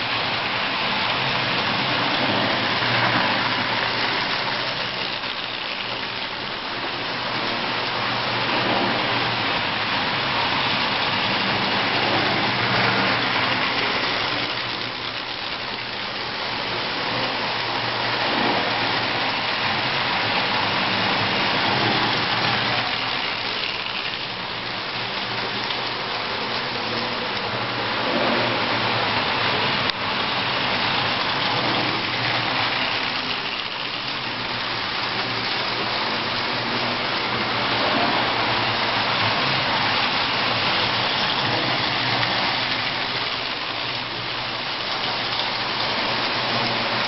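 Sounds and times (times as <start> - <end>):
toy train wheels clattering: 0.0 - 27.5, 29.5 - 47.0.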